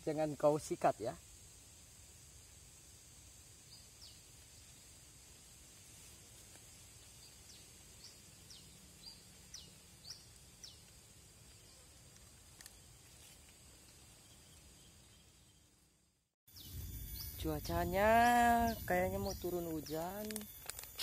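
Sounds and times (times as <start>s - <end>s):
high outdoor hiss: 0.0s - 21.0s.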